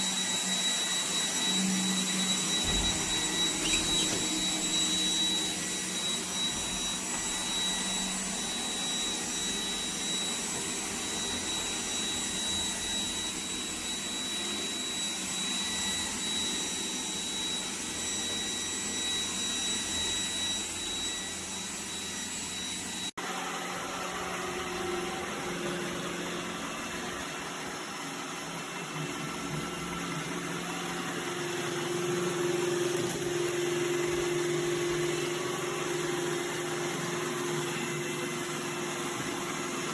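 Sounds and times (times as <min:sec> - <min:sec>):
robot vacuum cleaner running: 0:00.0 - 0:39.9.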